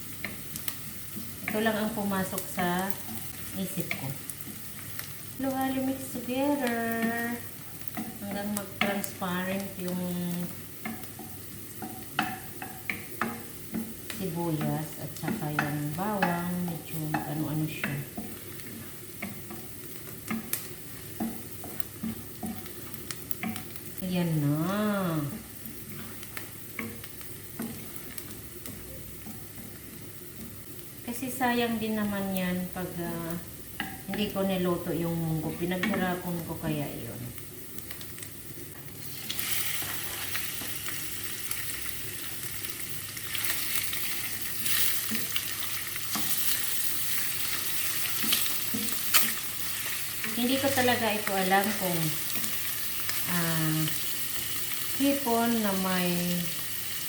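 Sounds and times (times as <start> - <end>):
onion sizzling in hot oil: 0.0 - 57.0.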